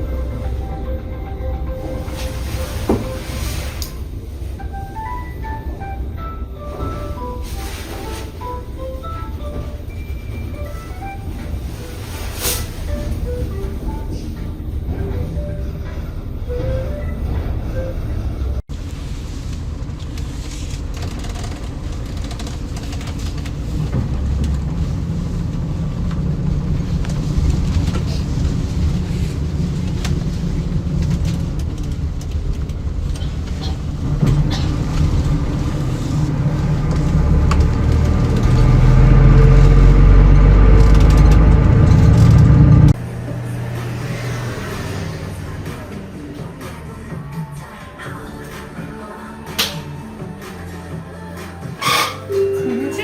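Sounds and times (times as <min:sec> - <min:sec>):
vehicle engine rumble: 0:00.0 - 0:51.8.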